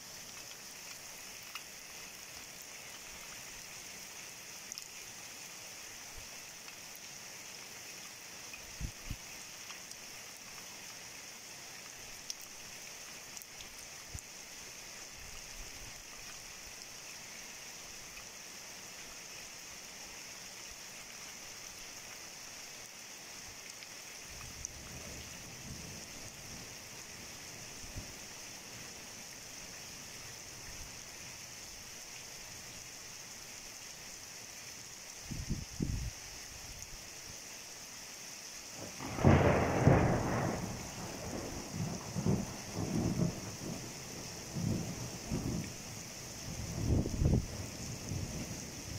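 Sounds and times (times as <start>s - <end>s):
heavy rain hissing: 0.0s - 48.9s.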